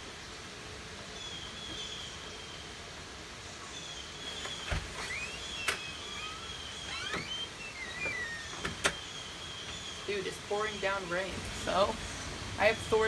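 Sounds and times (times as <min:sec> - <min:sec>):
rain pouring: 0:00.0 - 0:13.0.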